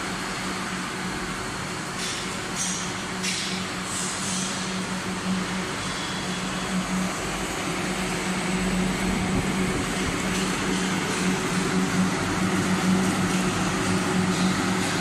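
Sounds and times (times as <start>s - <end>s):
fan air rushing: 0.0s - 15.0s
machine hum: 0.0s - 15.0s.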